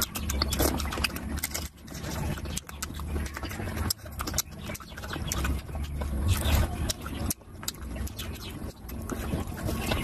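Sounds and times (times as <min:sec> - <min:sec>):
wet chewing and lip smacking: 0:00.0 - 0:10.0.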